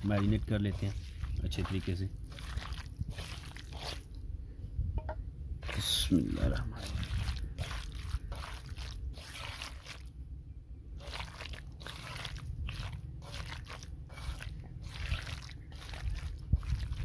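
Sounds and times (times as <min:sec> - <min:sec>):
hand squelching chicken in marinade: 0:00.0 - 0:04.2, 0:05.6 - 0:10.1, 0:11.0 - 0:17.0
low steady rumble: 0:00.0 - 0:17.0.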